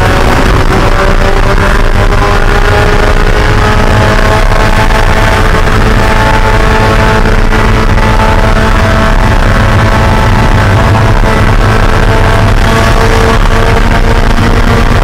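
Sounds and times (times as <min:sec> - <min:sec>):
race car engine at high revs: 0:00.0 - 0:15.0
road and drivetrain rumble: 0:00.0 - 0:15.0.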